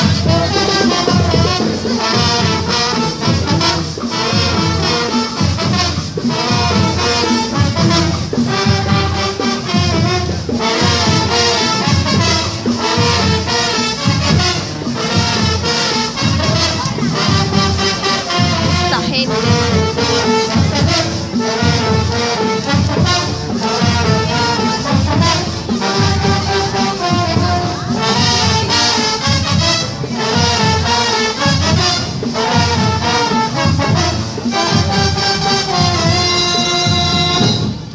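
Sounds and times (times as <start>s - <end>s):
brass band marching tune: 0.0s - 37.9s
steady drum beat: 0.0s - 37.9s.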